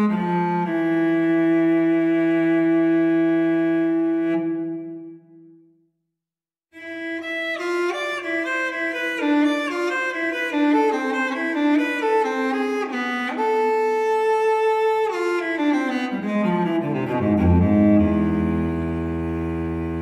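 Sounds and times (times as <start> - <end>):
bowed strings melody: 0.0 - 5.6, 6.8 - 20.0.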